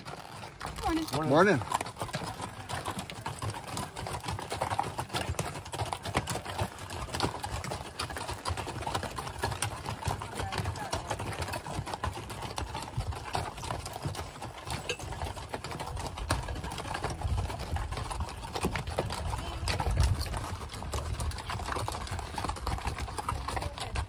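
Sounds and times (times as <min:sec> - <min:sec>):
mule hooves clip-clopping on dirt: 0:00.0 - 0:24.0.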